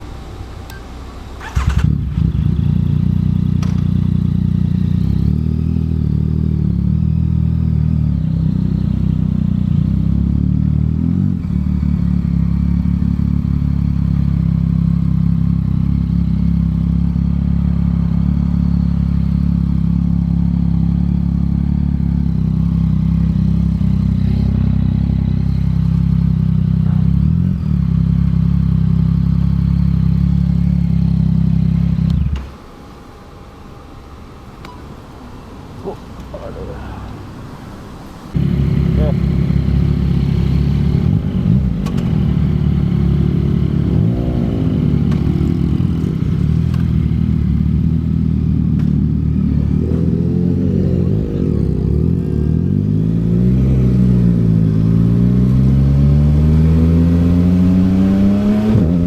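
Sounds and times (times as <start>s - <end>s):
motorcycle engine running: 0.0s - 32.5s, 38.3s - 59.0s.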